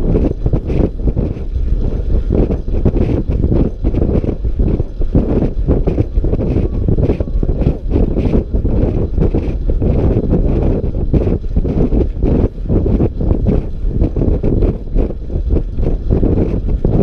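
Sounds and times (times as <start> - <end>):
wind buffeting camera microphone: 0.0 - 17.0.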